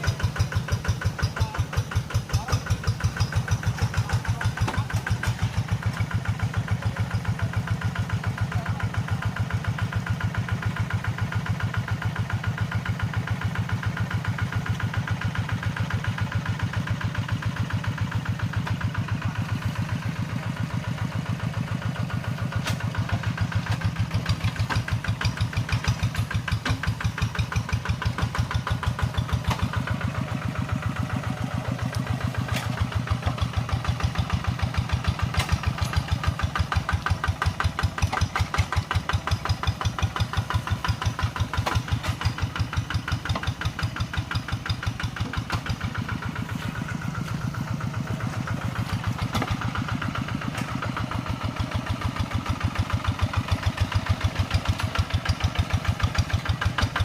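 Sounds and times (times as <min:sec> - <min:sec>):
tractor engine chugging: 0:00.0 - 0:57.0.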